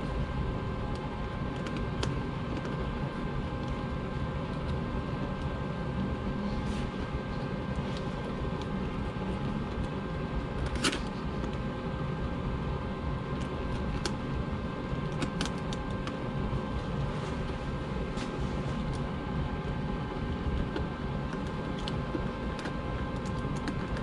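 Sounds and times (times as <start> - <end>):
machine hum with pitched tones: 0.0 - 24.0.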